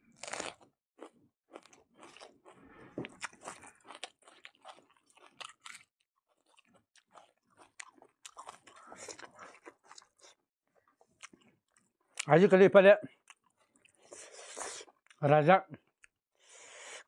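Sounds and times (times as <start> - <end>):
wet chewing and smacking: 0.2 - 12.3, 13.1 - 15.2.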